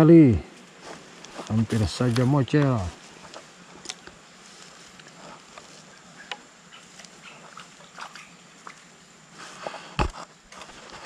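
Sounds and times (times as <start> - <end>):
high-pitched insect tone: 0.0 - 10.6
soft hiss: 0.0 - 11.0.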